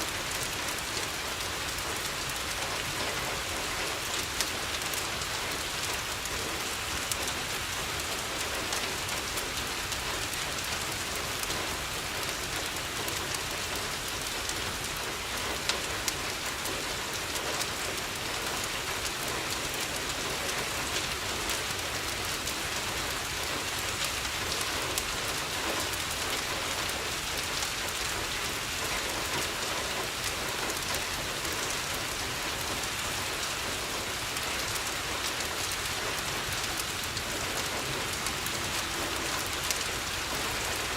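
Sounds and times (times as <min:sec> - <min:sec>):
rain on a window: 0:00.0 - 0:40.9
wood fire popping and crackling: 0:00.2 - 0:40.8.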